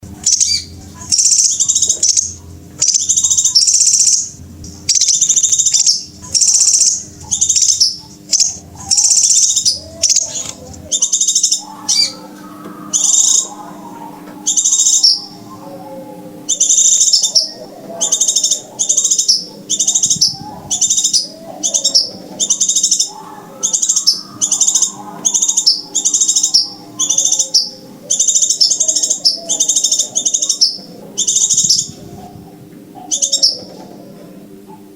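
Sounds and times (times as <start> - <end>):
faint lower twittering: 0.0 - 34.9
high sharp bird chirps: 0.2 - 15.6, 16.5 - 32.0.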